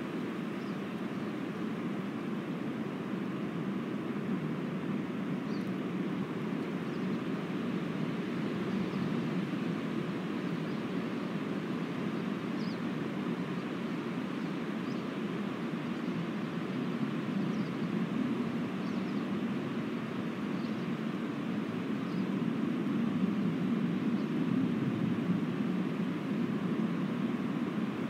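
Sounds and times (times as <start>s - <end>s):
wind rushing through trees: 0.0s - 28.0s.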